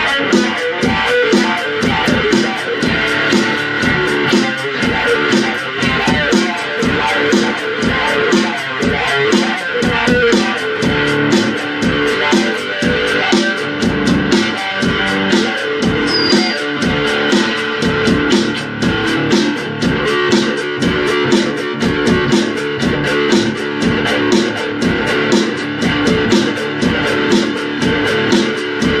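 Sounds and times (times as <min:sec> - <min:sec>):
guitar music with bass line: 0:00.0 - 0:29.0.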